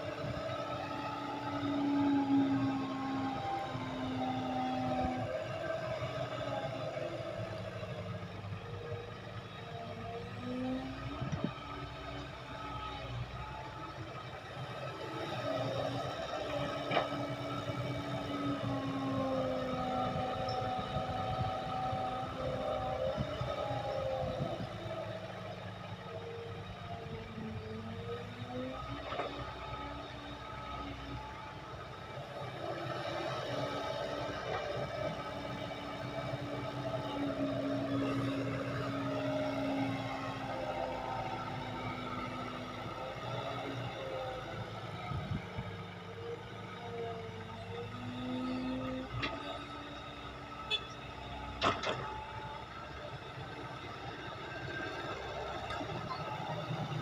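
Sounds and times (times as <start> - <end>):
excavator diesel engine rumble: 0.0 - 57.0.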